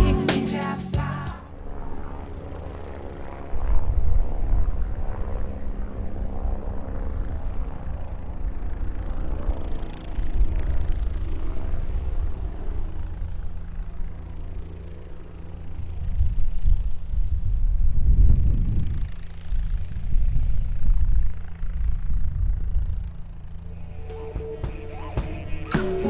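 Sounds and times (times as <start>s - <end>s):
helicopter engine and rotor drone: 1.5s - 26.0s.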